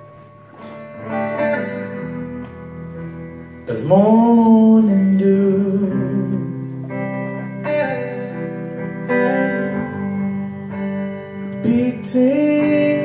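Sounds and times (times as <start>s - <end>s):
guitars playing ringing chords: 0.0s - 13.0s.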